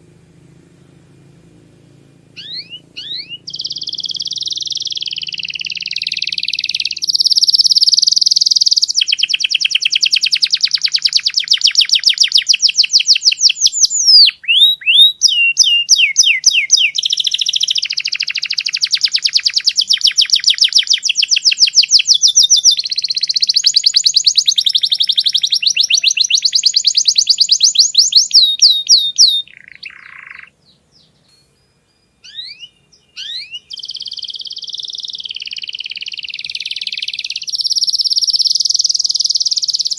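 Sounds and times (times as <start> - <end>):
canary singing trills: 1.8 - 39.9
thin bird chirps: 2.4 - 39.9.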